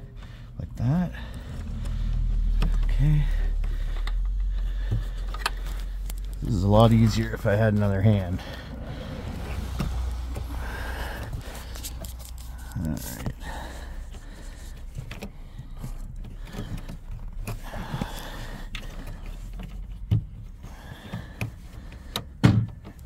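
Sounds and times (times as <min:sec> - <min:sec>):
plastic parts creaking and clicking: 0:00.0 - 0:23.0.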